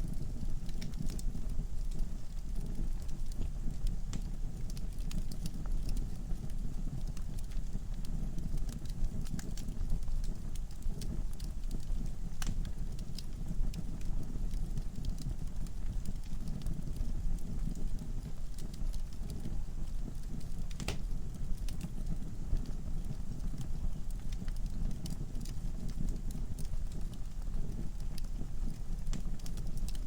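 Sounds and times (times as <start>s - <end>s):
fireplace fire crackling: 0.0s - 30.0s.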